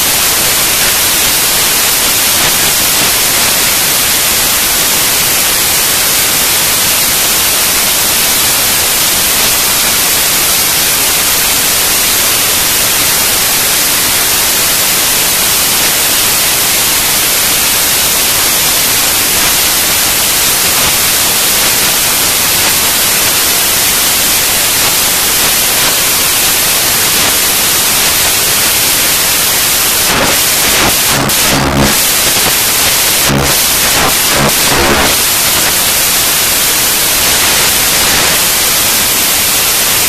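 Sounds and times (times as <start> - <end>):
static hiss: 0.0 - 40.0.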